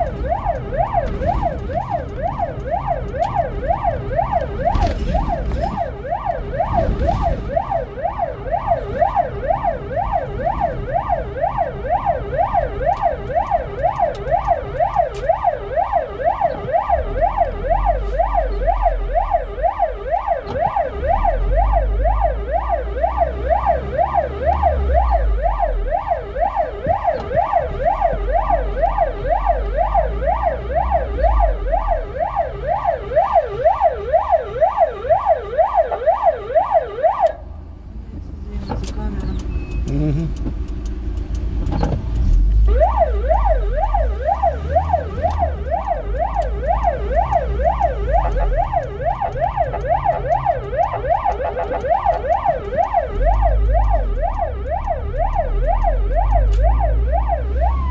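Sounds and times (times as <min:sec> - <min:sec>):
ambulance siren yelping: 0:00.0 - 0:37.4, 0:42.6 - 0:57.9
low rumble of moving vehicle: 0:00.0 - 0:57.9.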